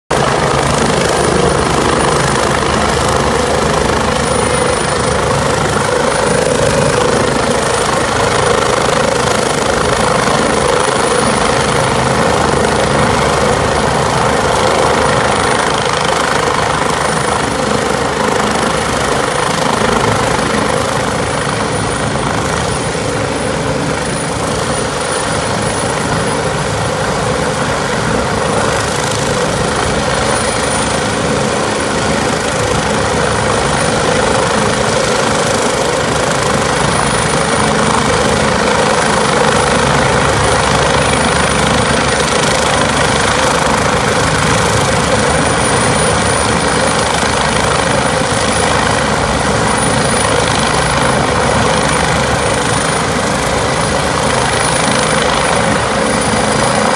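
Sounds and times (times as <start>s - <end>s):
helicopter rotor and engine: 0.1s - 56.9s.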